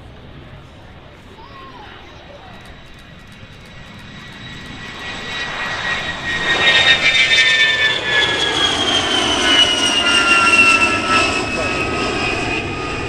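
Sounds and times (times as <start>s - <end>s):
airplane flying past low: 0.1s - 13.0s.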